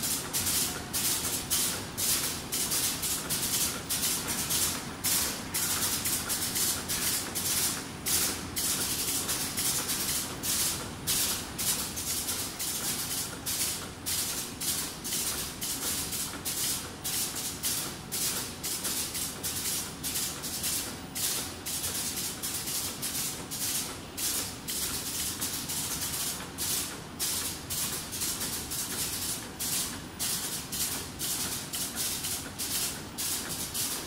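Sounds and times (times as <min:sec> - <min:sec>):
bag-making machine rhythmic hissing: 0:00.0 - 0:34.0.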